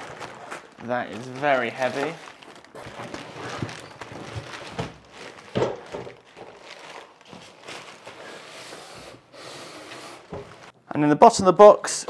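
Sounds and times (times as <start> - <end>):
plastic wrapping rustling: 0.0 - 10.8.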